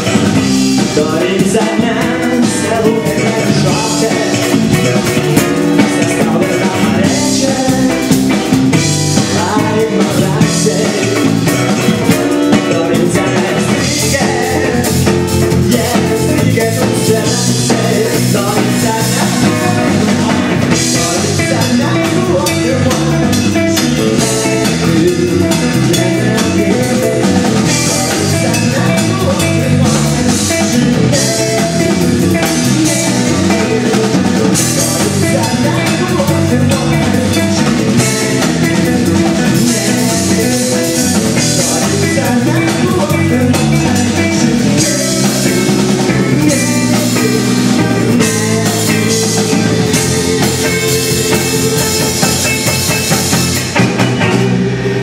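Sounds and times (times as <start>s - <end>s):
drum kit: 0.0s - 55.0s
electric guitar: 0.0s - 55.0s
man singing: 0.0s - 55.0s.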